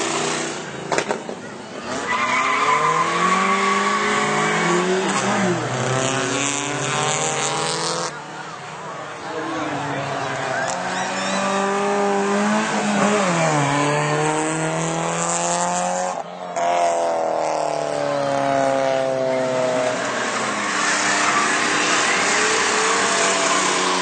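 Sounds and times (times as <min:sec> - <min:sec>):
drag racing car engines: 0:00.0 - 0:24.0.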